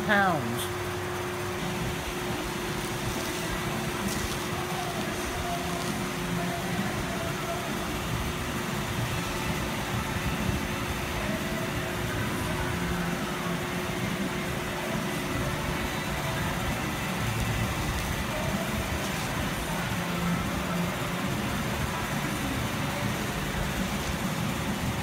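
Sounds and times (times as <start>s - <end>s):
machinery hum and hiss: 0.0s - 25.0s.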